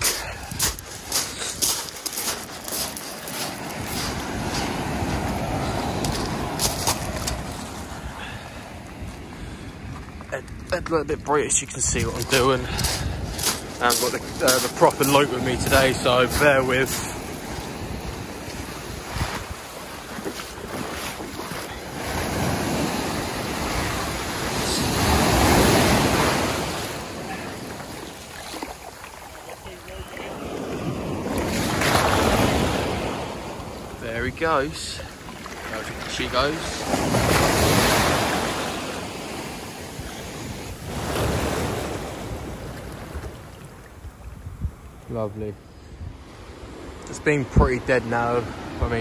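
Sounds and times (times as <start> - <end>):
wind buffeting microphone: 0.0 - 34.6, 39.8 - 47.7
surf breaking on beach: 1.1 - 9.8, 11.8 - 44.2.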